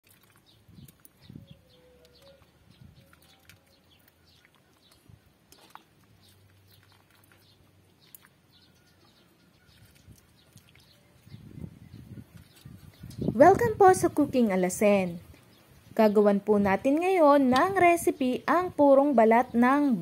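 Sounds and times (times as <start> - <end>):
faint birds chirping: 0.1 - 20.0.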